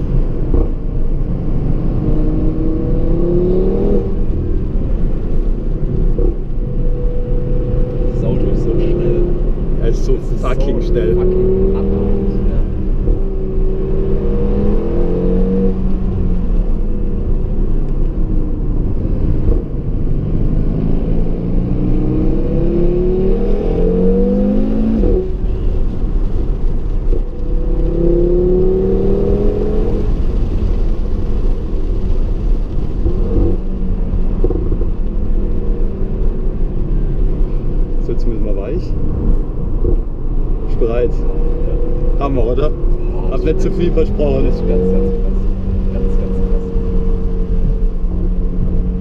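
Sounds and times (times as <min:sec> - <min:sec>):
car engine accelerating hard: 0:00.0 - 0:49.0
low road noise rumble: 0:00.0 - 0:49.0.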